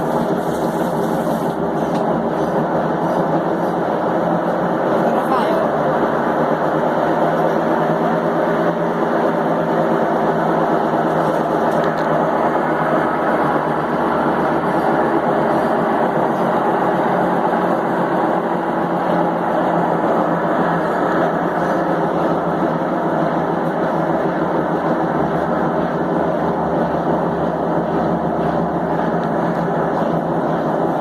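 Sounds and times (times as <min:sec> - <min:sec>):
washing machine spin cycle: 0:00.0 - 0:31.0.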